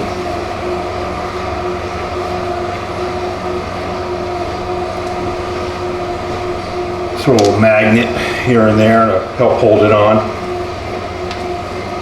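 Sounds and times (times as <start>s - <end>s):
electric machine hum: 0.0s - 12.0s.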